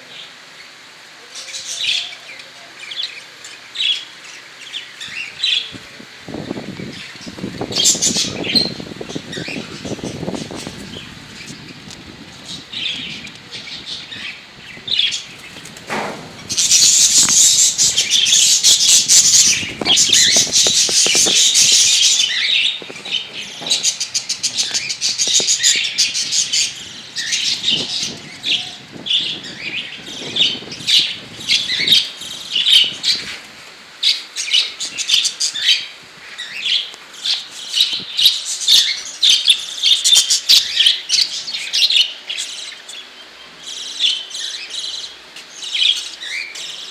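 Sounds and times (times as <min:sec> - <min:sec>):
birds chirping and chattering: 0:00.0 - 0:46.9.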